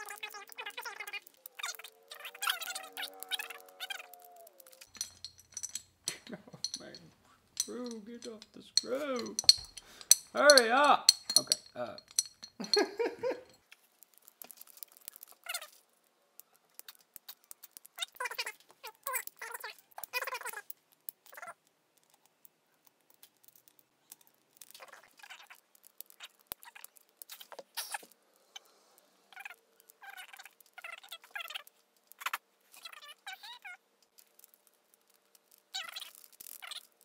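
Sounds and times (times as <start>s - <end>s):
ball rattling in glass bottle: 0.0s - 28.2s, 29.3s - 37.0s.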